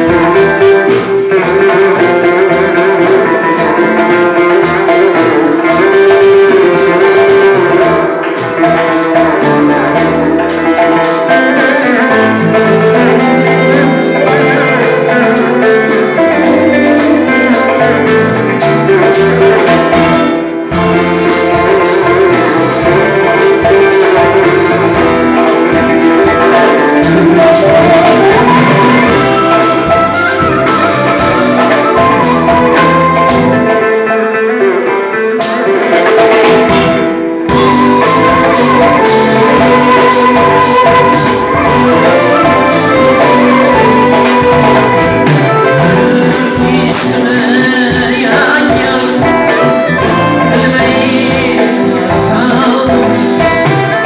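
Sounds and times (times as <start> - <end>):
man singing through pa: 0.0 - 33.9, 37.6 - 54.0
electric keyboard: 0.0 - 54.0
frame drum: 0.0 - 54.0.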